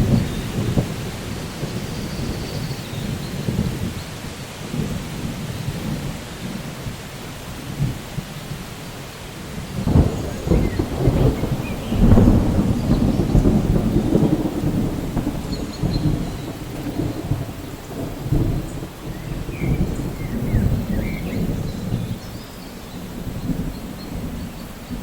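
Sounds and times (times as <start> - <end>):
rolling thunder: 0.0 - 7.0, 9.4 - 25.0
steady rain: 0.0 - 25.0.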